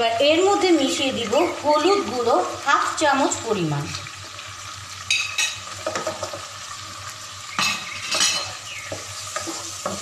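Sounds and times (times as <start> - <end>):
potatoes sizzling in hot oil: 0.0 - 10.0.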